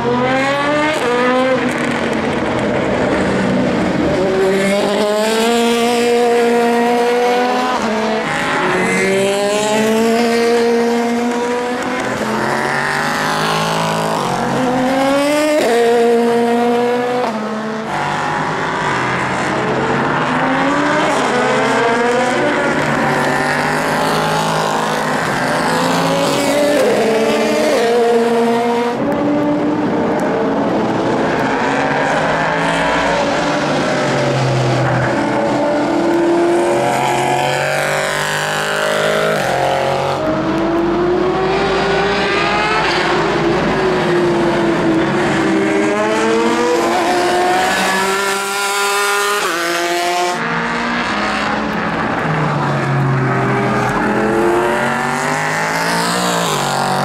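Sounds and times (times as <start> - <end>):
race car engines revving past: 0.0 - 57.0.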